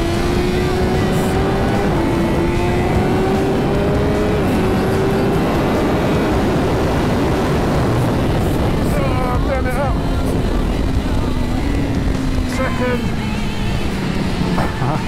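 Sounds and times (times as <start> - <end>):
motorcycle engine at high speed: 0.0 - 15.0
wind rush on microphone: 0.0 - 15.0.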